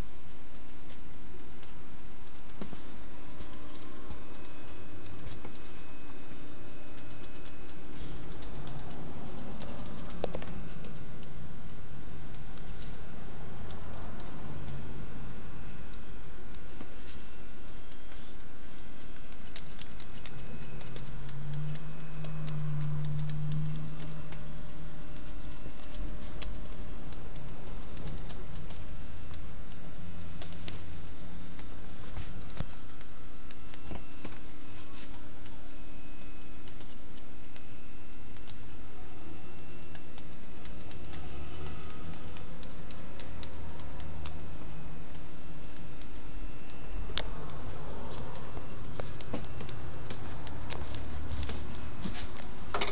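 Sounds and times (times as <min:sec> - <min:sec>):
scissors snipping hair: 0:00.0 - 0:11.4, 0:15.8 - 0:52.9.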